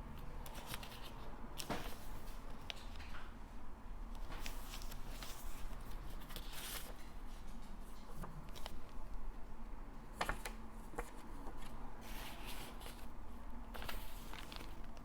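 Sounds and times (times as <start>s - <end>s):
paper pages rustling: 0.4s - 3.1s, 4.2s - 9.0s, 10.2s - 15.0s.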